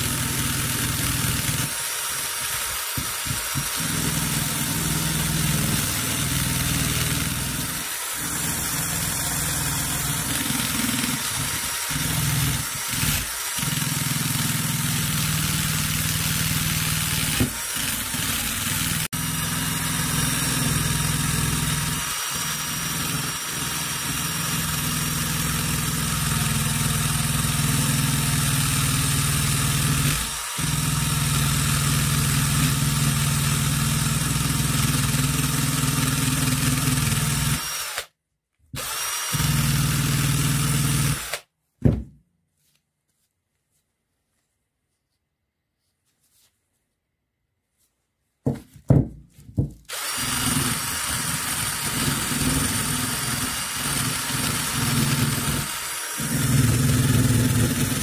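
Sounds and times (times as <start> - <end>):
power tool running: 0.0 - 38.1, 38.8 - 41.4, 49.9 - 58.0.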